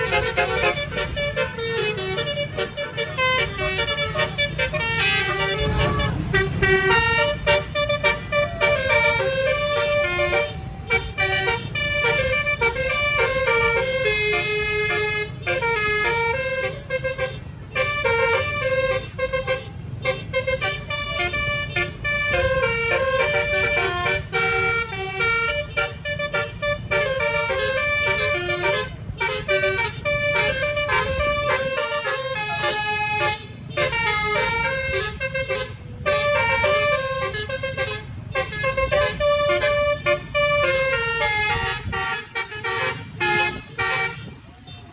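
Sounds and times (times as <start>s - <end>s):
multi-tone bus horn tune: 0.0s - 44.9s.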